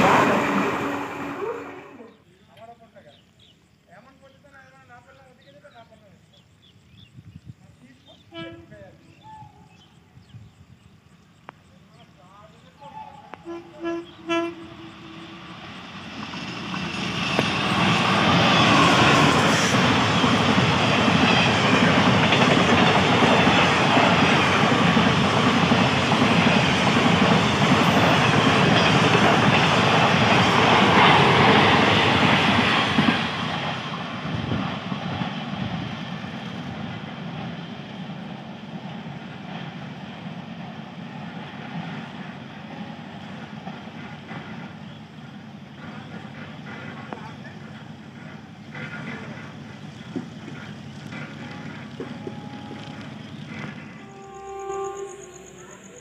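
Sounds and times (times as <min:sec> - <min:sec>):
train wheels rushing on rails: 0:00.0 - 0:02.6, 0:09.7 - 0:56.0.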